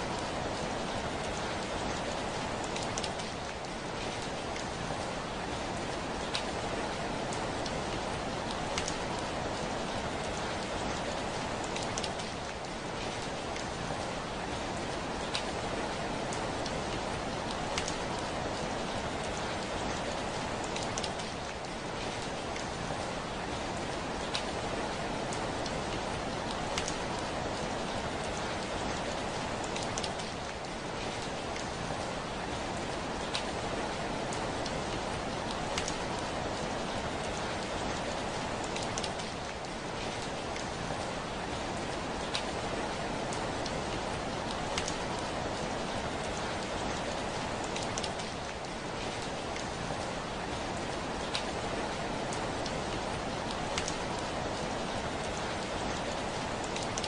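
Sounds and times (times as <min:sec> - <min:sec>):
raindrops ticking on window: 0:06.2 - 0:14.1, 0:14.7 - 0:23.0, 0:24.2 - 0:32.0, 0:32.7 - 0:57.0.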